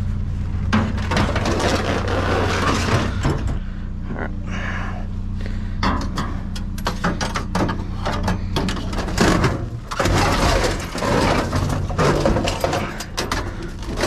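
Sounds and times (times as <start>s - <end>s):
steady low hum: 0.0s - 14.0s
junk clattering in a dumpster: 0.6s - 3.7s, 5.8s - 14.0s.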